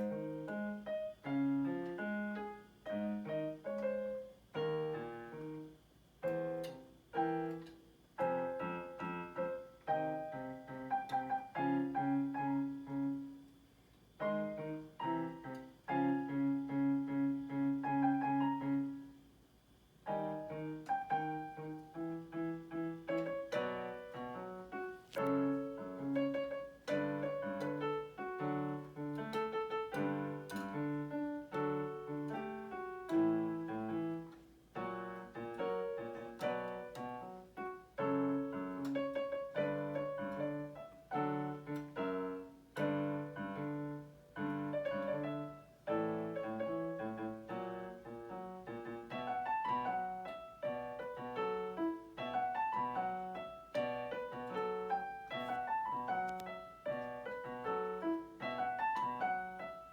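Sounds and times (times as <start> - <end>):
solo piano pop ballad: 0.0 - 13.6, 20.1 - 59.9.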